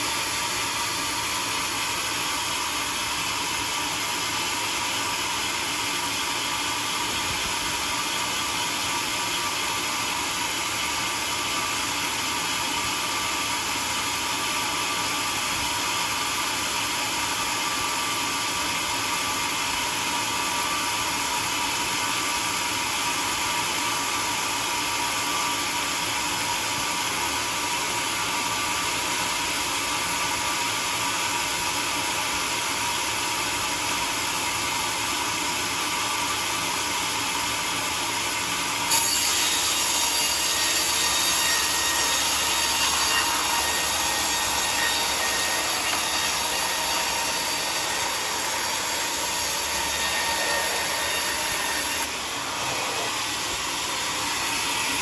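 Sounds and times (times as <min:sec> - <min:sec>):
sawmill cutting a log: 0:00.0 - 0:55.0.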